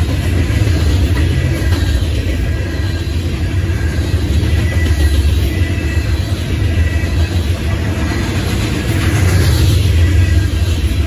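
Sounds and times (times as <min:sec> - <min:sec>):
freight cars rumbling on rails: 0:00.0 - 0:11.0.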